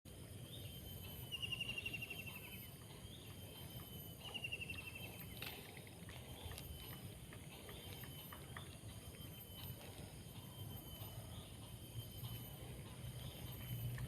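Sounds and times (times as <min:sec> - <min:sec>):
high-pitched whine: 0:00.1 - 0:14.0.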